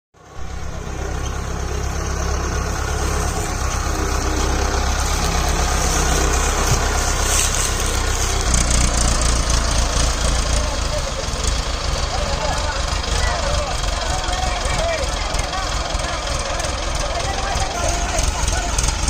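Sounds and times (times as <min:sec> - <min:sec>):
tractor diesel engine running: 0:00.2 - 0:19.0.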